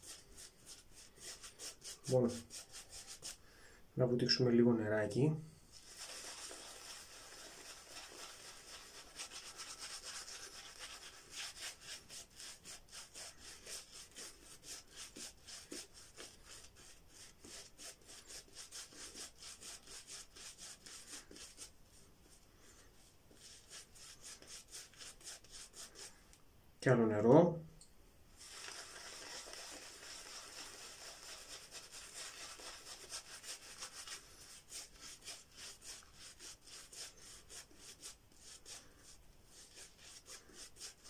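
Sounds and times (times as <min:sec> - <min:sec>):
shaving brush rubbing lather: 0:00.0 - 0:03.4, 0:05.7 - 0:21.7, 0:22.3 - 0:26.2, 0:28.4 - 0:41.0.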